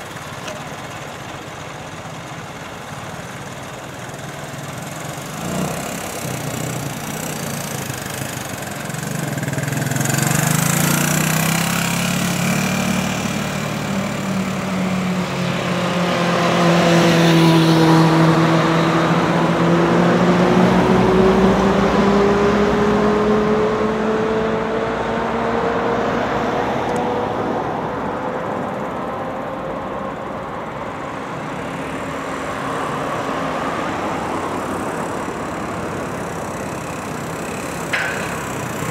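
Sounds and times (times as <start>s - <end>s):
motorcycle engine running: 0.0s - 24.8s, 27.9s - 38.9s.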